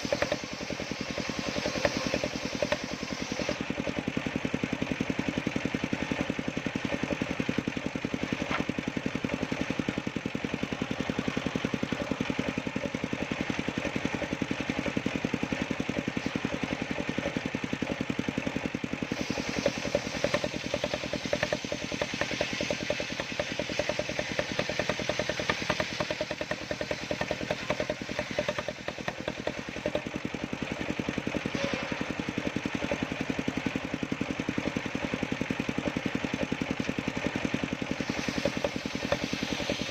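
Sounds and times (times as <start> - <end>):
small sawmill engine running: 0.0 - 39.9.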